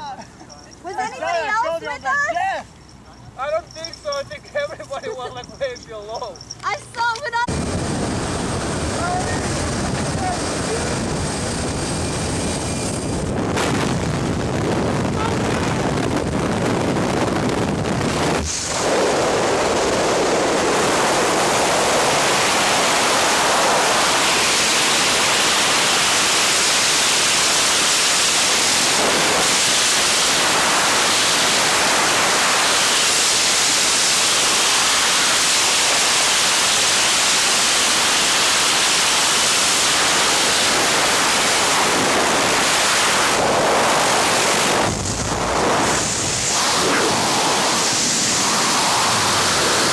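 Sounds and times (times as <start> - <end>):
aircraft engine and propeller: 3.4 - 49.9
freefall wind buffeting microphone: 7.3 - 49.9.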